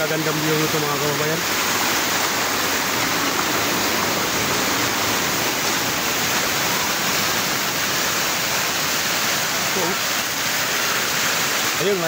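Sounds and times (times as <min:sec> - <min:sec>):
water cascading over rocks: 0:00.0 - 0:12.0.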